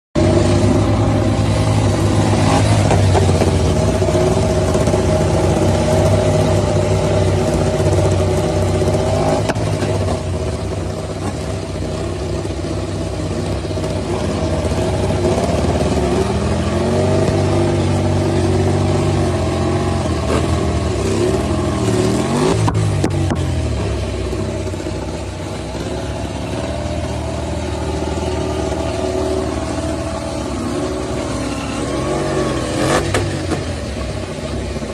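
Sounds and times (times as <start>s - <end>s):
engine revving: 0.2s - 34.9s.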